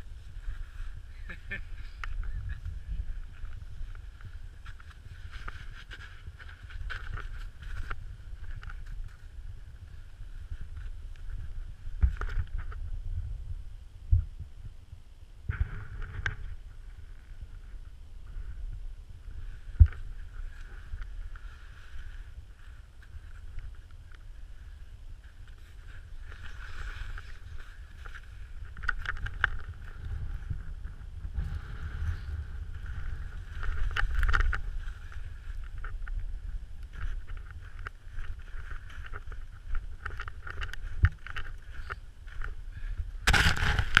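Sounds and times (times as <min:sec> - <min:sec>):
microphone handling rumble: 0:00.0 - 0:44.0.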